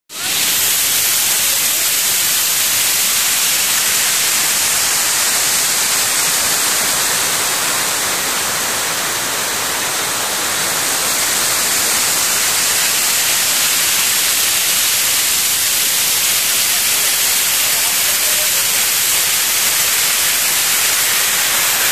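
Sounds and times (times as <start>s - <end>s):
waterfall rushing: 0.1s - 21.9s.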